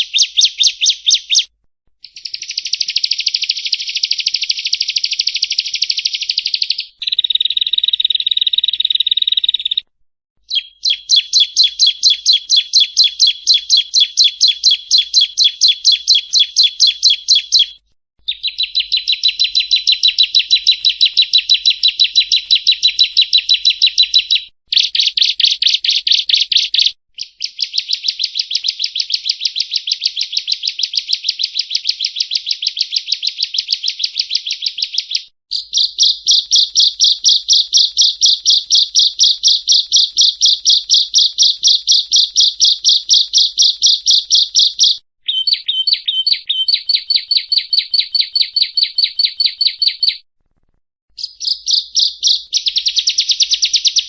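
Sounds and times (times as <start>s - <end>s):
bird singing chattering trill: 0.0s - 9.8s, 10.4s - 50.2s, 51.2s - 54.0s.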